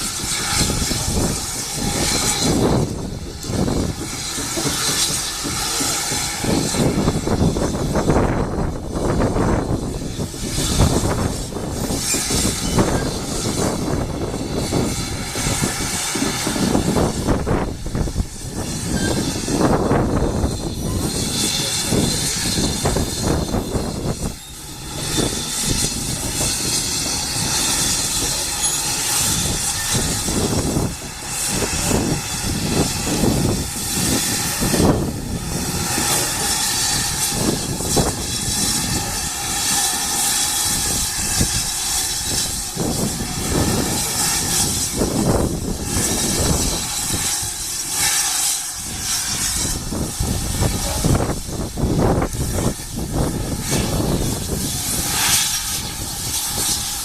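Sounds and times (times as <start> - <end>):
steam hissing: 0.0 - 57.0
steam locomotive chuffing: 0.0 - 57.0.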